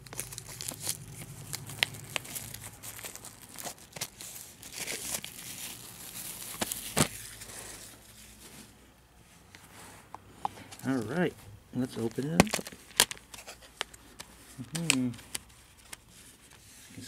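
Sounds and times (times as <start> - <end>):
plastic shrink wrap crinkling: 0.0 - 8.7, 11.8 - 17.0.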